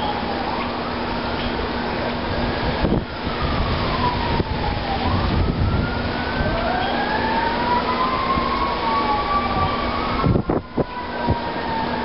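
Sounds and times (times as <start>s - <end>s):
wind whistling tones: 0.0s - 12.0s
storm wind gusting on microphone: 0.8s - 12.0s.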